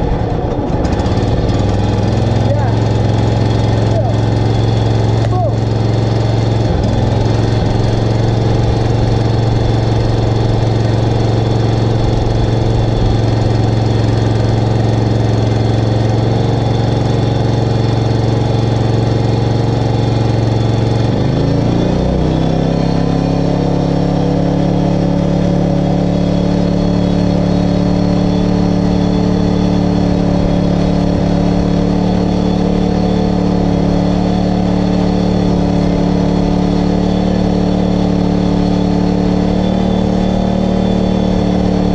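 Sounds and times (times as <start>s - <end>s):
lawn mower engine running: 0.0s - 41.9s.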